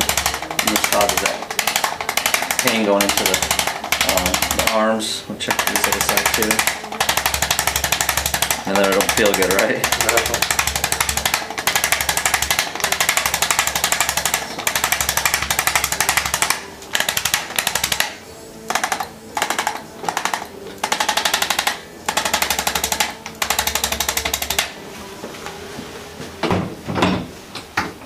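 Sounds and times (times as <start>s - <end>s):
electric adjusting instrument tapping: 0.0s - 4.8s, 5.5s - 24.7s.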